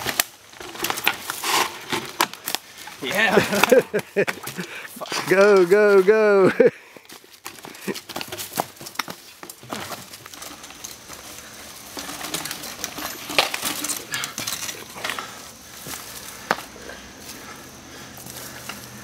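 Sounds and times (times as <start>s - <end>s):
bike chain and frame clanking: 0.0s - 19.0s.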